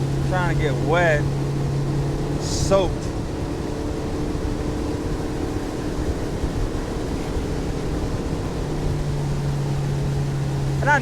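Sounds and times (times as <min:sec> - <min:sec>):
boat motor running: 0:00.0 - 0:11.0
rush of wind and water: 0:00.0 - 0:11.0.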